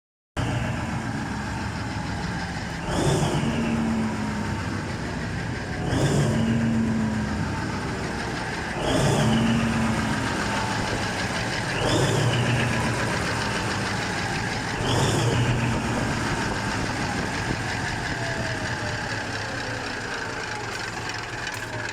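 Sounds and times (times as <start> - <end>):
diesel engine droning with whine: 0.4 - 21.9.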